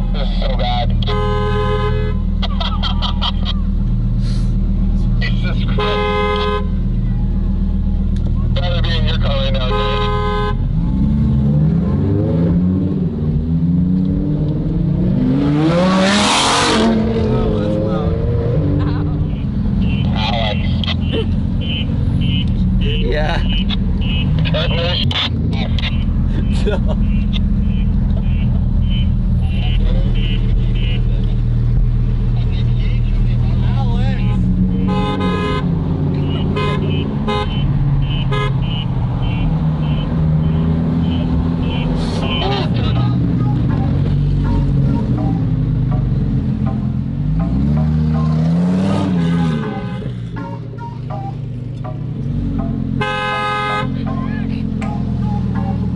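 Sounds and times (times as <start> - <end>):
car engine accelerating hard: 0.0 - 55.9.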